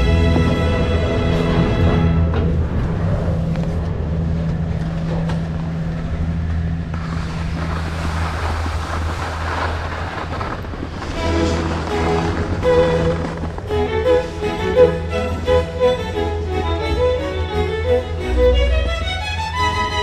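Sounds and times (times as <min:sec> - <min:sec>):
low hum: 0:00.0 - 0:20.0
rushing noise: 0:00.0 - 0:20.0.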